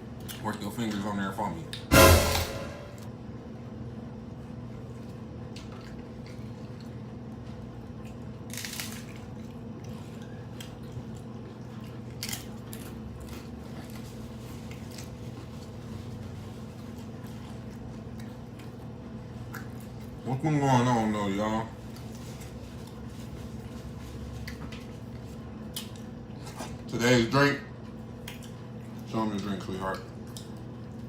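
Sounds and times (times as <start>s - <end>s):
crunchy tacos being chewed: 0.0s - 1.9s, 4.3s - 31.0s
steady electrical hum: 0.0s - 31.0s.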